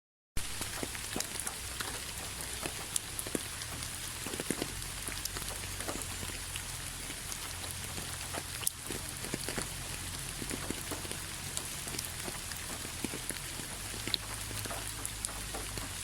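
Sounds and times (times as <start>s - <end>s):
steady rainfall: 0.4s - 16.0s
drops ticking on hard surface: 0.5s - 16.0s.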